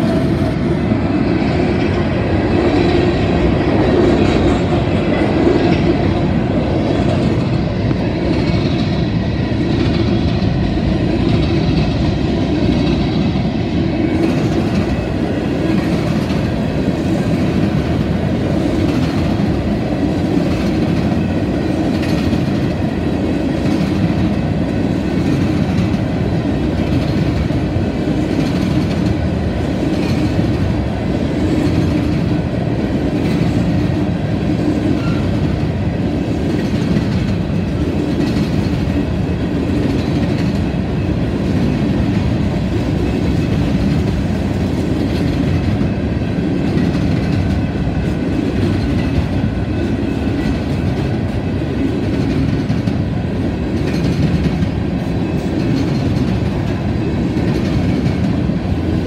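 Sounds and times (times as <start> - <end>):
freight train rumbling past: 0.0 - 59.0
train wheel clacks: 0.0 - 59.0.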